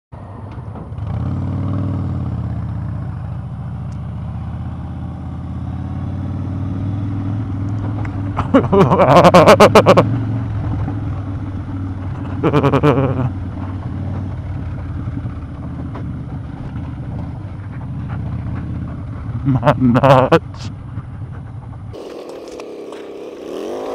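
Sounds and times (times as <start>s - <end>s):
motorcycle engine running: 0.3s - 23.9s.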